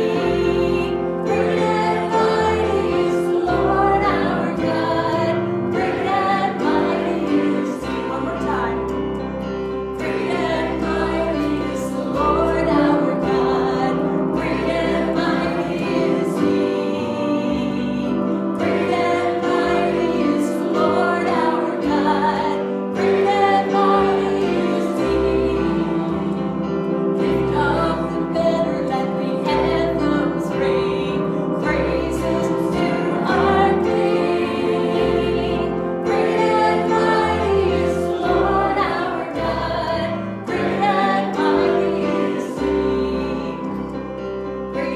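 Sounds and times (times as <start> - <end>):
group singing a hymn: 0.0 - 44.9
instrumental accompaniment: 0.0 - 44.9.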